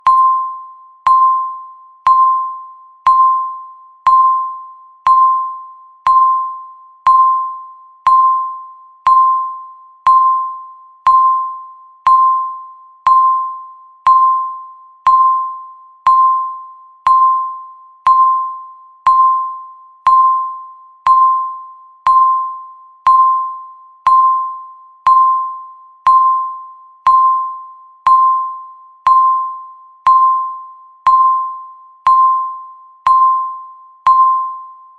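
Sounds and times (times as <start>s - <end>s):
timer beeping: 0.0s - 34.9s.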